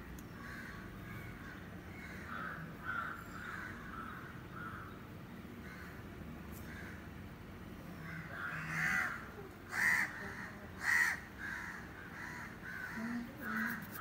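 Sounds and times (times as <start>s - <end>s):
crows cawing: 0.4s - 5.0s, 5.6s - 7.1s, 8.0s - 14.0s.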